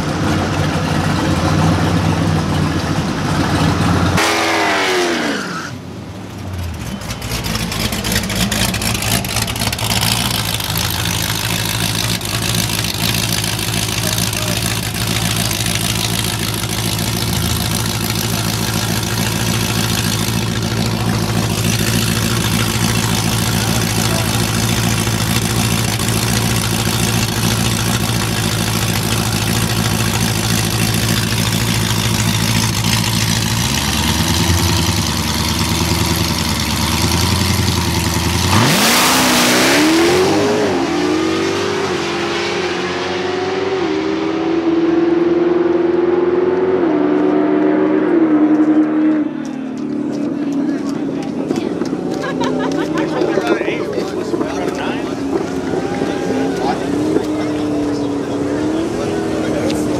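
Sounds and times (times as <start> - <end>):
car engine idling: 0.0 - 4.2, 5.8 - 41.5, 48.6 - 59.9
car engine accelerating: 0.0 - 59.9.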